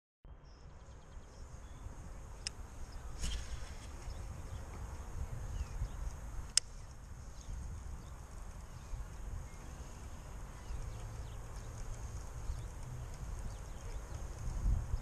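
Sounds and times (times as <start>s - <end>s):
wind rumbling on microphone: 0.4s - 15.0s.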